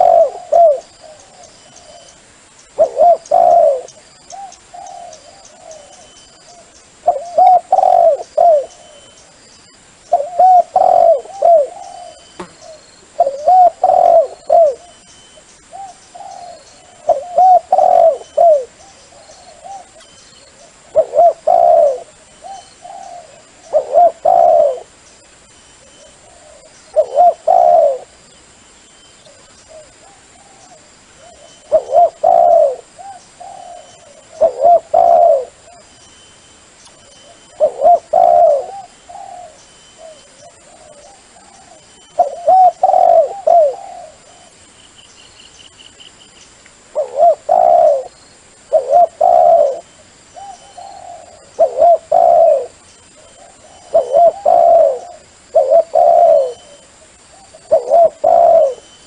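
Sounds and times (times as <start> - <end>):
dove cooing: 0.0 - 2.2, 2.8 - 9.2, 10.1 - 25.0, 25.8 - 28.2, 29.3 - 35.9, 37.0 - 44.6, 46.9 - 59.0.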